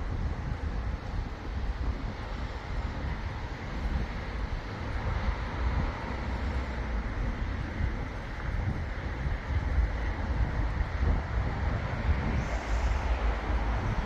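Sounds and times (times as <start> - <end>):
steady outdoor hiss: 0.0 - 14.0
wind buffeting microphone: 0.0 - 14.0.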